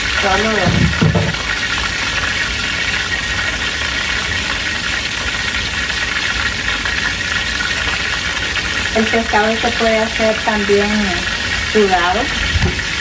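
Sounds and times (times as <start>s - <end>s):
fish sizzling in hot oil: 0.0s - 13.0s
gas burner roar: 0.0s - 13.0s.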